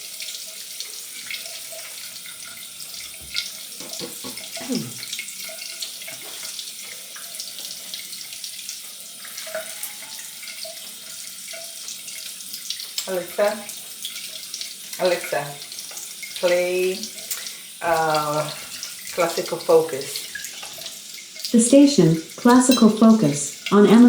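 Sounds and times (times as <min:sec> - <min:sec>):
water running from a tap: 0:00.0 - 0:24.0.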